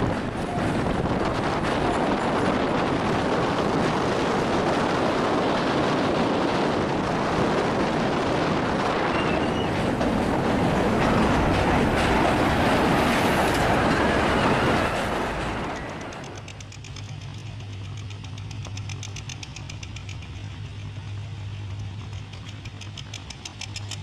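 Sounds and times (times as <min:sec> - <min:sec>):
train wheels running on rails: 0:00.0 - 0:24.0.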